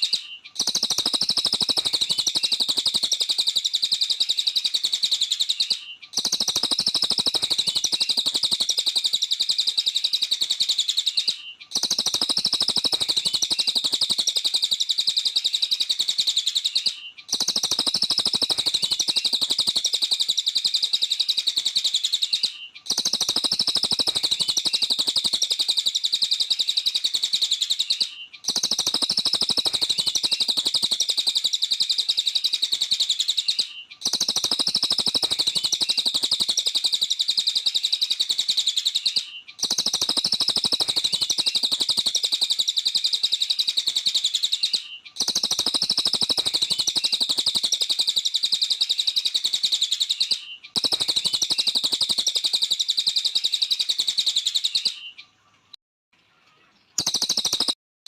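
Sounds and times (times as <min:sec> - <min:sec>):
songbird chattering chirp: 0:00.0 - 0:57.8.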